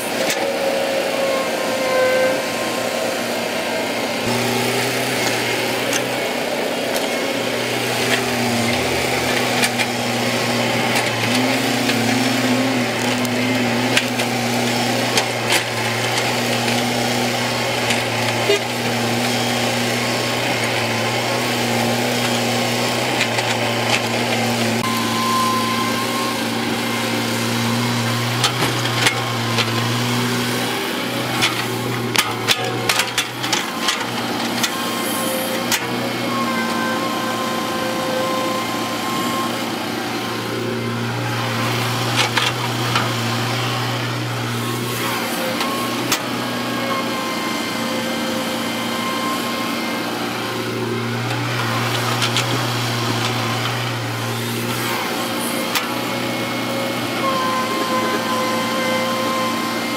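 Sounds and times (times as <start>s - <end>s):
diesel machinery engine hum: 0.0s - 59.9s.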